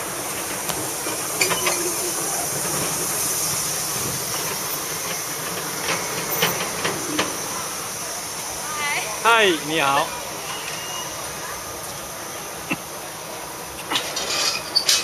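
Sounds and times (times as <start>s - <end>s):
miniature train running hiss: 0.0s - 15.0s.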